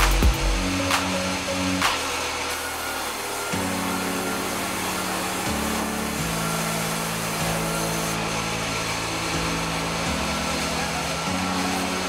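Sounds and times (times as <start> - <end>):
band saw cutting boards: 0.0 - 12.0.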